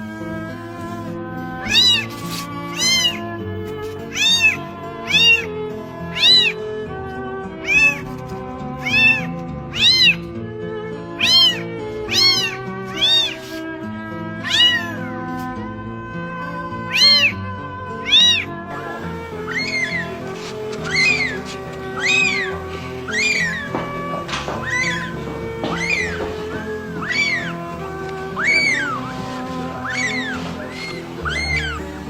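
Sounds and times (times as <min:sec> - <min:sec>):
background music: 0:00.0 - 0:32.0
kitten meowing: 0:01.6 - 0:06.7, 0:07.5 - 0:10.3, 0:11.2 - 0:13.6, 0:14.4 - 0:32.0.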